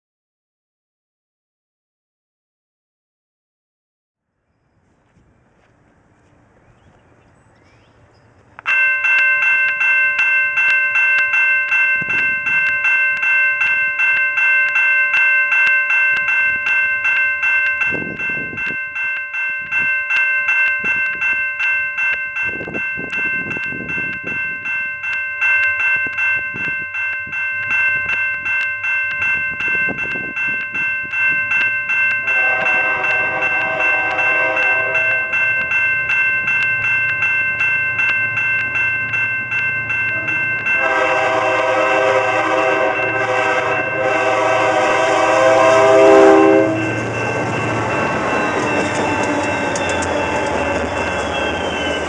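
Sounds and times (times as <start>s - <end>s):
railway crossing bell ringing: 8.6s - 52.0s.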